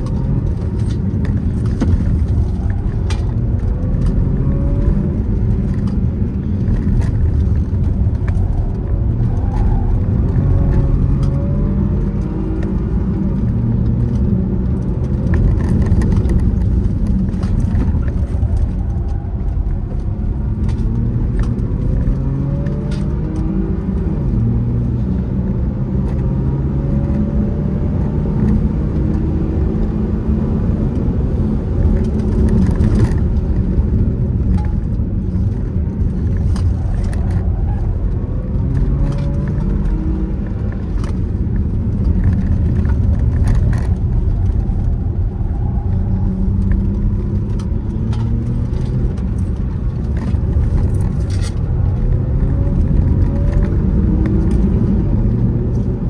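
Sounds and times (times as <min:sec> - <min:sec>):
car engine accelerating: 0:00.0 - 0:56.0
road and wind rumble: 0:00.0 - 0:56.0.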